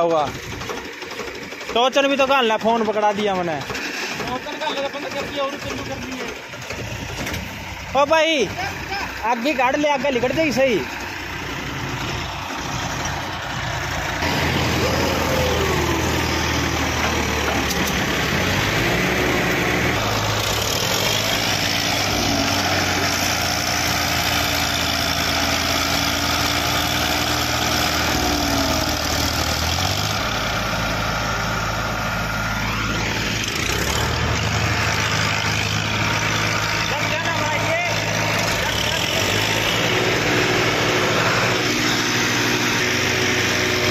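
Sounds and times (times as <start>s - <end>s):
diesel tractor engines under load: 0.0s - 43.9s.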